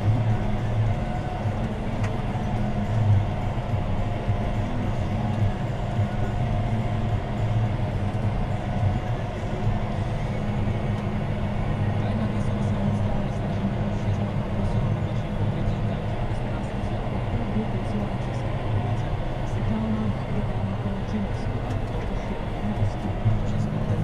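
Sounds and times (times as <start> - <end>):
tractor diesel engine drone: 0.0 - 24.0.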